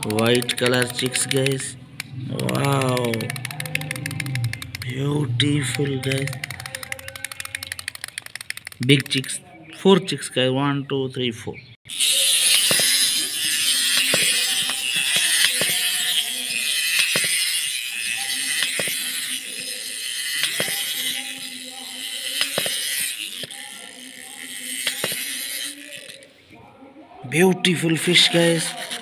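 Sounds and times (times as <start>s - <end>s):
clockwork toy whirring: 0.0s - 9.4s, 11.9s - 26.4s, 27.9s - 29.0s
toy feet knocking: 0.0s - 9.4s, 12.2s - 26.2s.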